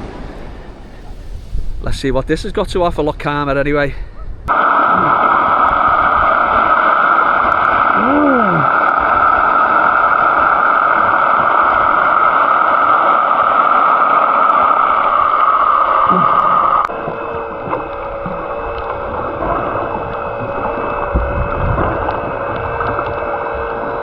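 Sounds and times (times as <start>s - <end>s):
rushing water underwater: 0.0s - 1.9s, 4.5s - 24.0s
muffled rising and falling tone: 4.5s - 24.0s.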